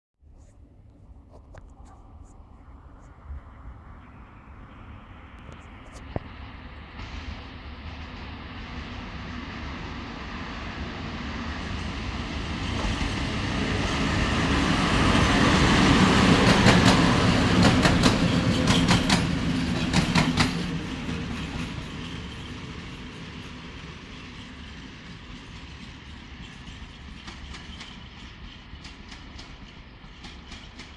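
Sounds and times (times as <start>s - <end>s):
freight locomotive passing: 2.0s - 30.9s.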